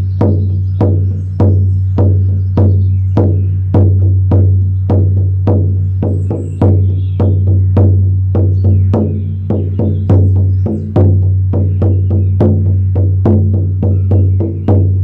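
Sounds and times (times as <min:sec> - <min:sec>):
frame drum booming: 0:00.0 - 0:15.0.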